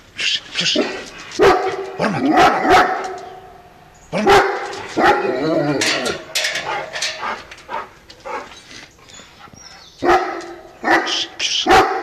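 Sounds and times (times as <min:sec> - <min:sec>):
dog barking deeply: 0:00.6 - 0:08.5, 0:10.0 - 0:12.0.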